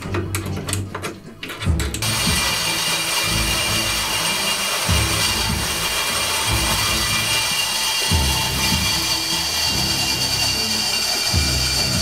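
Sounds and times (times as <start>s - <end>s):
background music with beat: 0.0s - 12.0s
band saw cutting metal: 2.0s - 12.0s.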